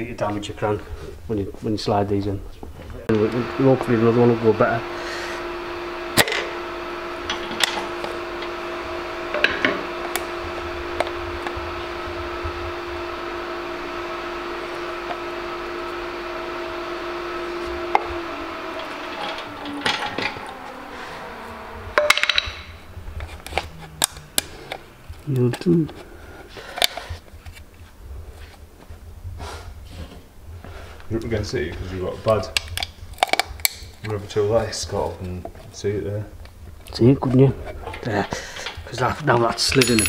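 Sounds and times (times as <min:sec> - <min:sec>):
steady hum: 0:00.0 - 0:39.1.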